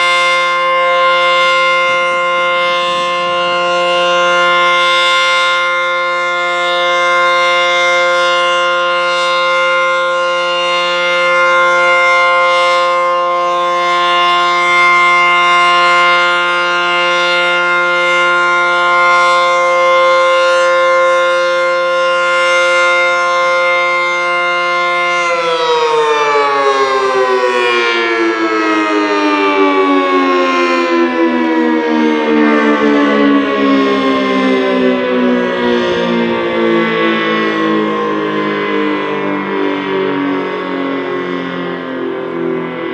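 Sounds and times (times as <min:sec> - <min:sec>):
tornado siren chord: 0:00.0 - 0:42.9.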